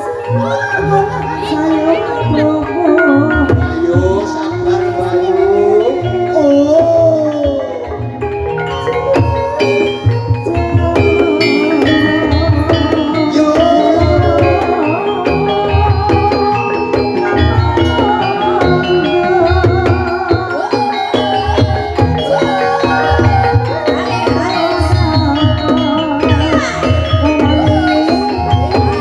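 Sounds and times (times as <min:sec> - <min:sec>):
drum and gong pulses: 0:00.0 - 0:29.0
metallophone notes: 0:00.0 - 0:29.0.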